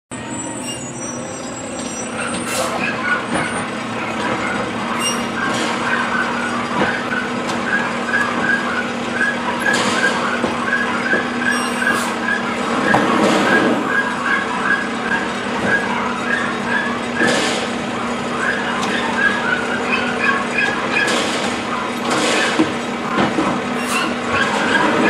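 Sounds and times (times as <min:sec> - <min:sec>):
garbage truck idling: 0:00.1 - 0:25.0
hydraulic arm lifting trash cart: 0:00.2 - 0:25.0.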